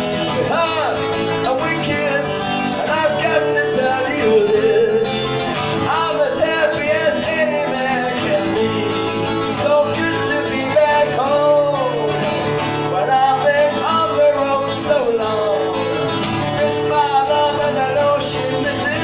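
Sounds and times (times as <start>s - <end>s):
acoustic guitar: 0.0s - 19.0s
man singing into a microphone: 0.0s - 19.0s.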